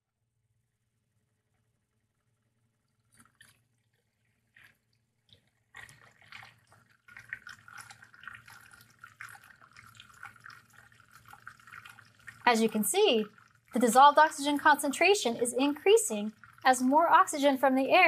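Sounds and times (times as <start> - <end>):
water bubbling and sloshing: 2.1 - 17.7.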